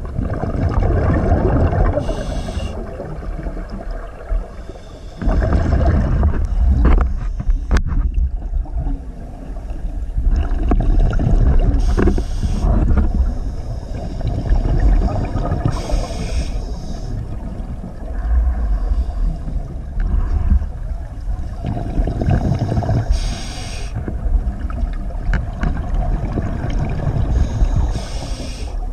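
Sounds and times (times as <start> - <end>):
muffled underwater water rumble: 0.0 - 28.9.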